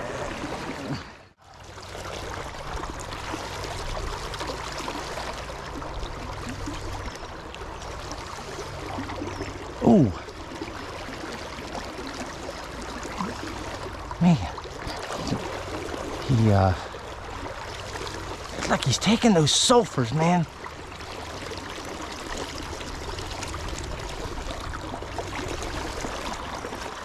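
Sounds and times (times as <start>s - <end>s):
river water flowing: 0.0s - 27.0s.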